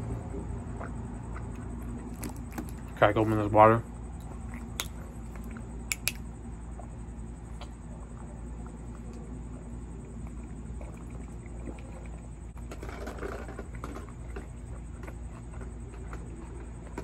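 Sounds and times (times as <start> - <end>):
biting and chewing food: 0.0 - 17.0
steady low hum: 0.0 - 17.0.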